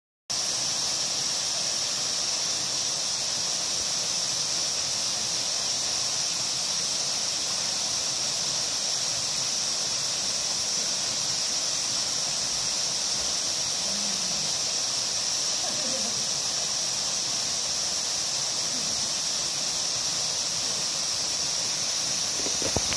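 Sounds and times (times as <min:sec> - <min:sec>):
waterfall rushing: 0:00.3 - 0:22.9.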